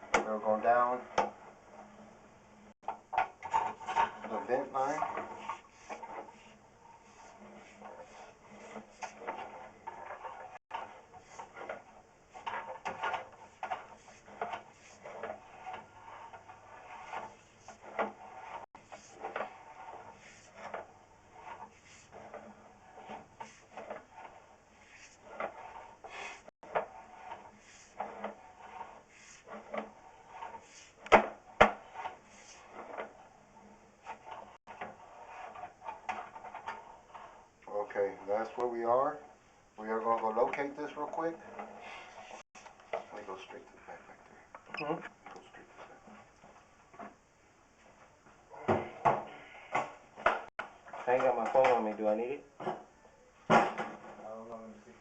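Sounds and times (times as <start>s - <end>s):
cable scraping inside pipe: 0.0s - 44.2s.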